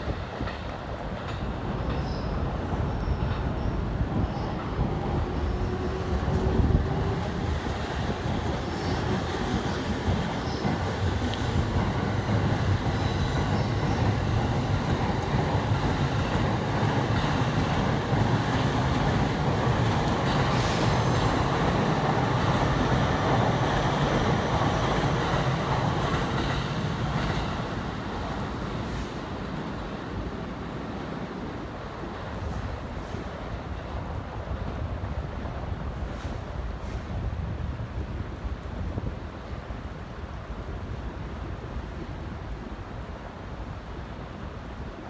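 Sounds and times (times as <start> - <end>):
electric train passing: 0.0 - 38.5.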